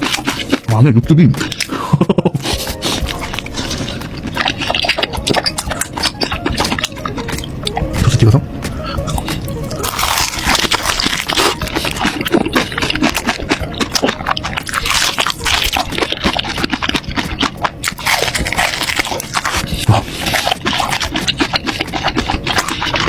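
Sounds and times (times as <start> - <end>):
wet chewing: 0.0 - 23.0.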